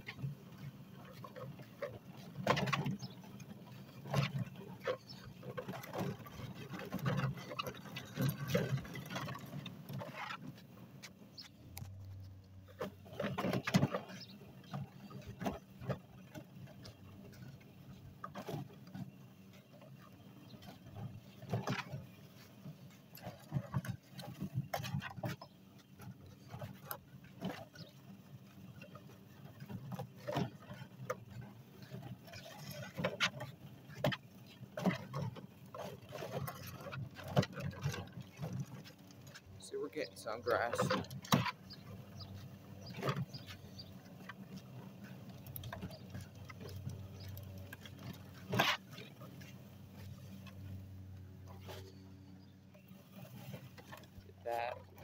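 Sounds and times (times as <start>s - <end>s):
sweeper brushes and wheels rattling: 0.0s - 55.0s.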